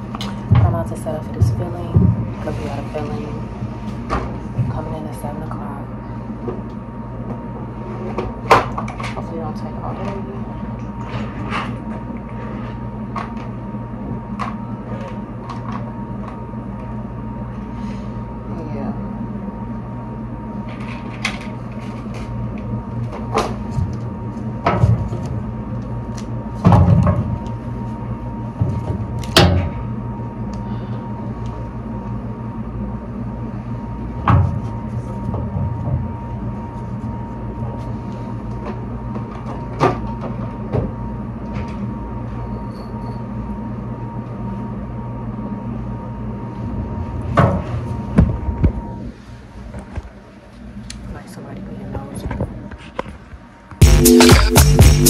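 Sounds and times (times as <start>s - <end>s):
machine hum: 0.0s - 55.0s.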